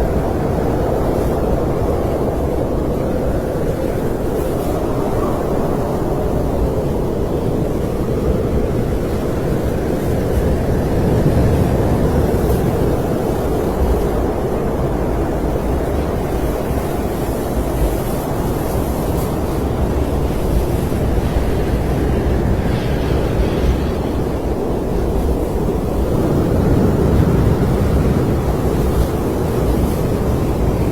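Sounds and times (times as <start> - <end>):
snowstorm wind blowing: 0.0 - 30.9.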